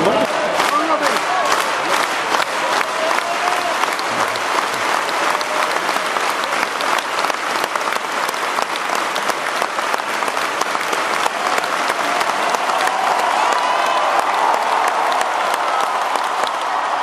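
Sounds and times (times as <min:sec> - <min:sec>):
crowd applauding: 0:00.0 - 0:17.0.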